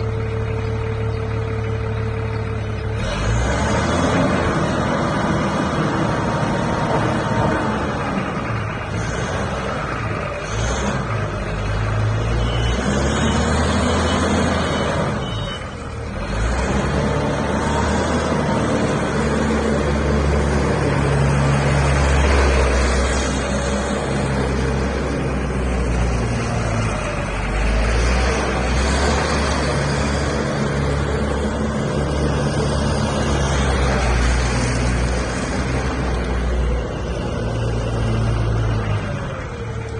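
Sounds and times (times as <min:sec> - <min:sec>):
forklift diesel engine working: 0:00.0 - 0:39.9.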